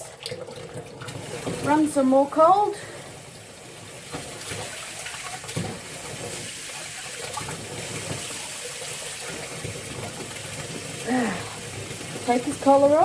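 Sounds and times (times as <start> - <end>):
tap water pouring into sink: 0.0 - 13.0.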